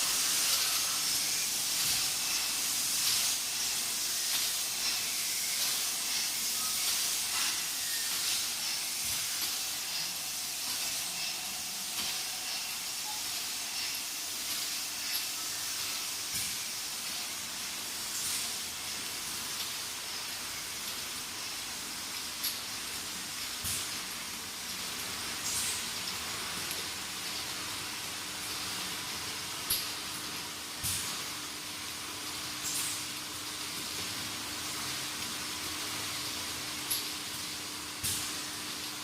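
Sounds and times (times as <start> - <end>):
machine hissing: 0.0 - 31.4.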